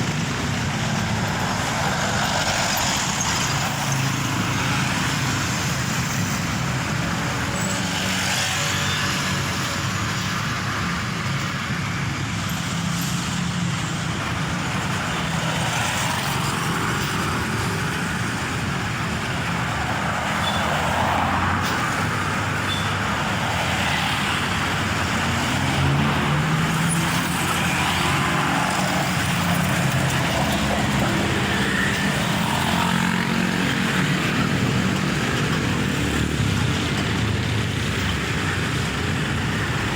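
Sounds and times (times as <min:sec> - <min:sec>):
tyre and traffic noise: 0:00.0 - 0:39.9.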